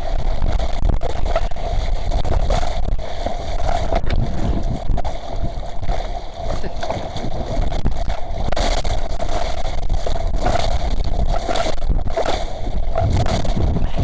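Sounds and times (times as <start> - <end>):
low rumble: 0.0 - 14.0
steady hum: 0.0 - 14.0
water rushing along hull: 0.0 - 14.0
wind buffeting microphone: 0.0 - 14.0.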